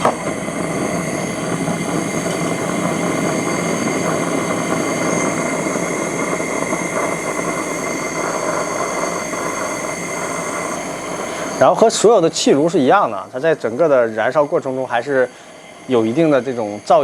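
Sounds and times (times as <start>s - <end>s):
burner combustion noise: 0.0s - 17.0s
gas heater hissing: 0.0s - 17.0s.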